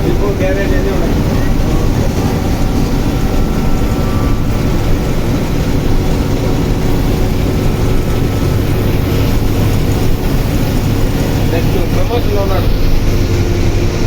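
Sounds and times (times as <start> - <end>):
passenger train rumbling: 0.0 - 14.0.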